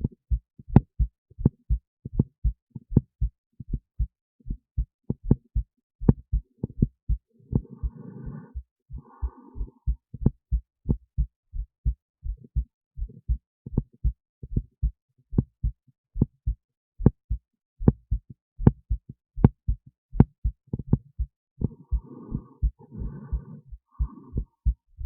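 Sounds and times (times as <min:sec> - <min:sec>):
heartbeat thumps: 0:00.0 - 0:25.0.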